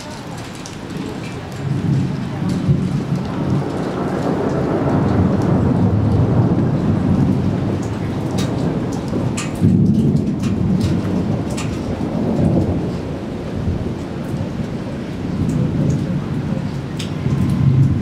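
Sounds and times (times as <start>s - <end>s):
raindrops ticking close by: 0.0s - 18.0s
steady rain: 0.0s - 18.0s
thunder rumbling: 0.0s - 18.0s.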